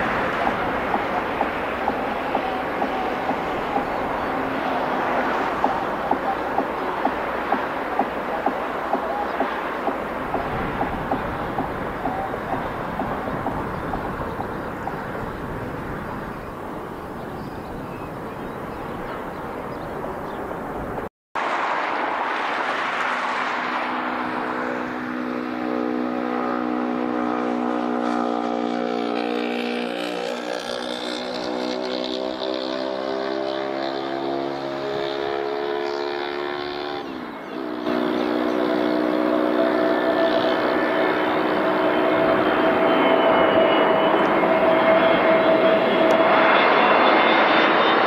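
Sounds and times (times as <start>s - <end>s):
jet engine roar: 0.0s - 48.0s
whining jet engine tone: 0.0s - 48.0s.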